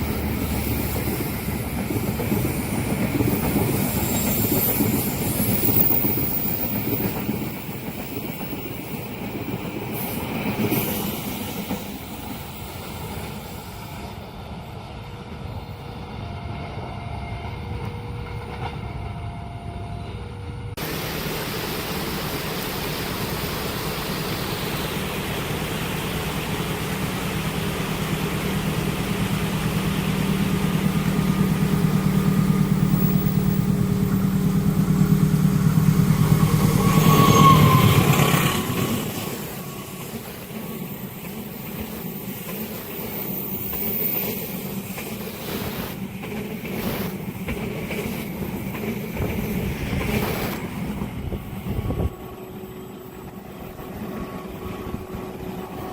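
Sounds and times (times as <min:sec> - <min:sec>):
carriages rumbling on rails: 0:00.0 - 0:55.9
diesel train passing: 0:00.0 - 0:55.9.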